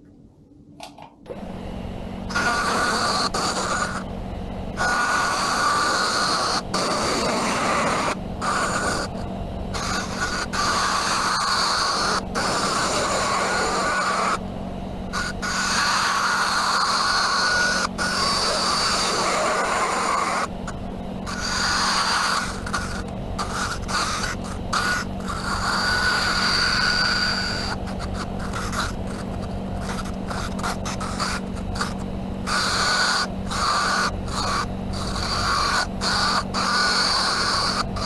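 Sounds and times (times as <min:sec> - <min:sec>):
lathe motor hum: 0:01.3 - 0:38.0
turning tool scraping wood: 0:02.3 - 0:04.1, 0:04.8 - 0:14.4, 0:15.1 - 0:38.0.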